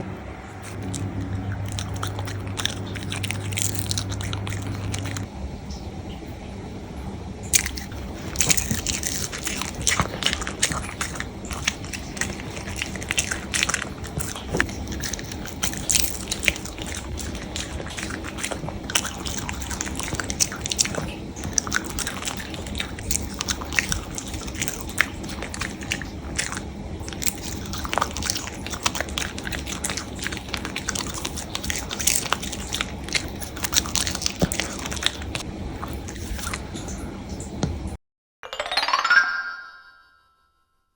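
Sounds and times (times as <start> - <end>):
low hum: 0.0 - 38.0
dog chewing crunchy food: 0.5 - 5.3, 7.5 - 37.0.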